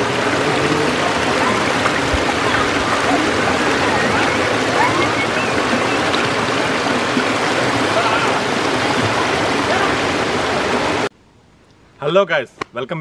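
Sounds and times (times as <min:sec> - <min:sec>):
stream rushing over rocks: 0:00.0 - 0:11.1.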